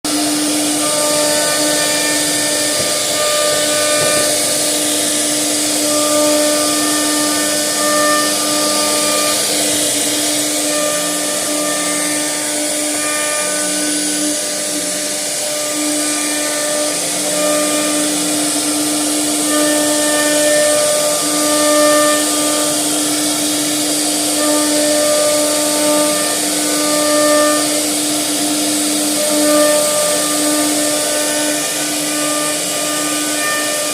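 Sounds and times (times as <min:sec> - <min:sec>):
wood router spindle whine: 0:00.0 - 0:33.9.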